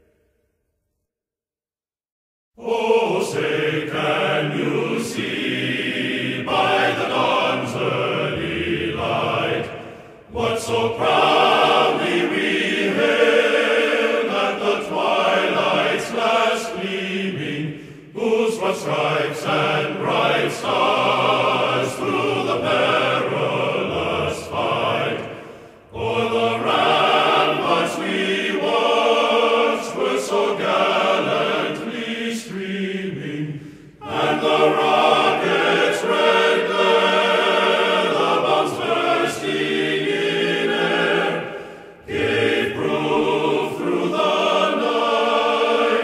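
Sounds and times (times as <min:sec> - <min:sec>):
choir-like chanting voices: 0:02.6 - 0:46.0.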